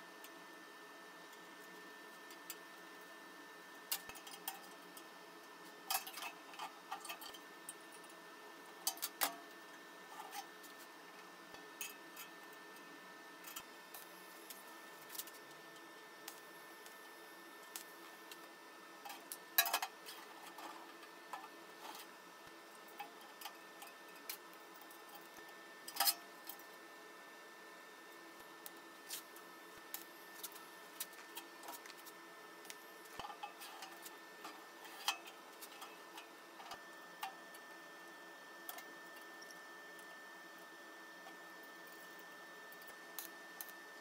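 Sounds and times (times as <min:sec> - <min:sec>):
faint hum with high tone: 0:00.0 - 0:44.0.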